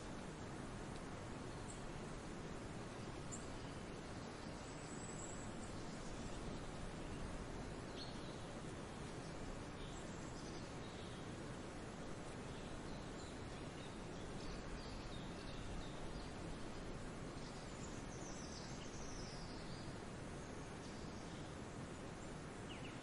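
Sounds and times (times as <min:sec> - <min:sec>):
small birds chirping faintly: 0:00.0 - 0:23.0
steady background noise: 0:00.0 - 0:23.0.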